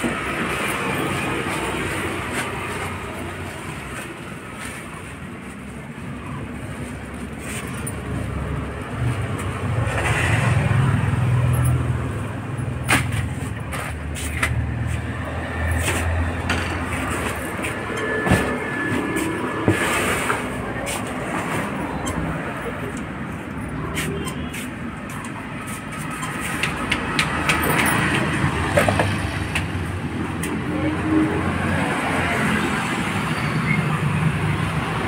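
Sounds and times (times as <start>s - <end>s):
street noise: 0.0s - 35.0s.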